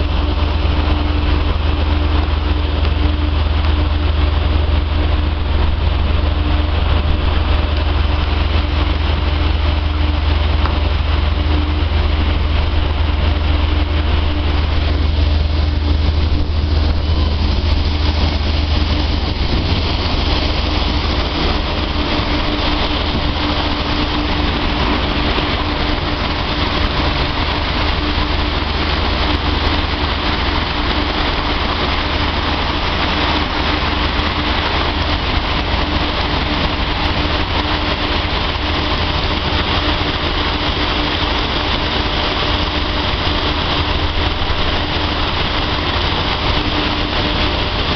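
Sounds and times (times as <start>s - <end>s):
machinery running: 0.0s - 47.9s.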